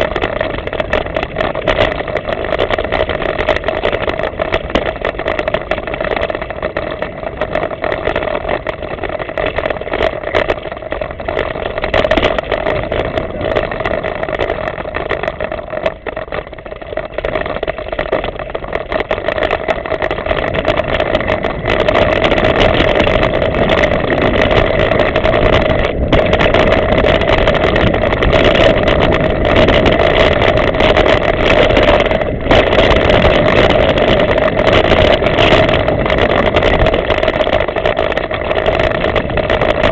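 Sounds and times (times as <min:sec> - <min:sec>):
bike tyres on dirt trail: 0:00.0 - 0:39.9
wind rushing over microphone: 0:00.0 - 0:39.9.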